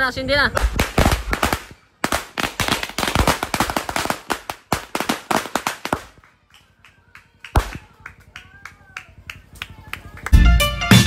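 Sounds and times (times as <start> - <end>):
firecrackers cracking: 0.5 - 10.6.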